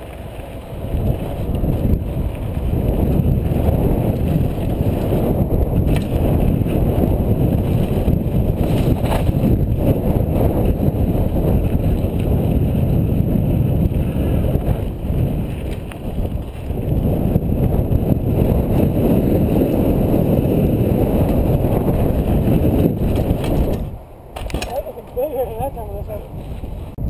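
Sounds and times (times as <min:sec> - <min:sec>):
bike tyres on dirt: 0:00.0 - 0:27.0
wind buffeting microphone: 0:00.0 - 0:27.0.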